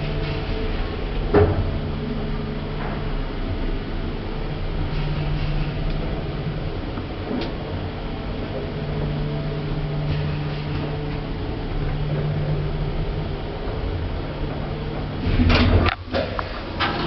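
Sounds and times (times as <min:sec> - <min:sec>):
lift machinery humming: 0:00.0 - 0:17.0
sliding doors opening: 0:00.0 - 0:17.0.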